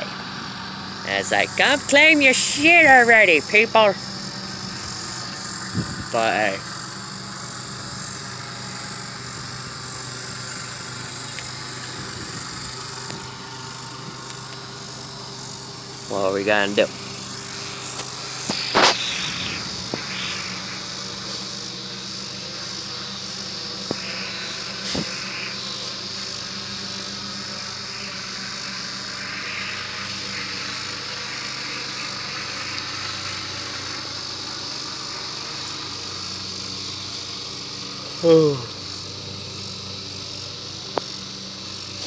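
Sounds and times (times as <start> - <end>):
insects chirping: 0.0 - 42.0.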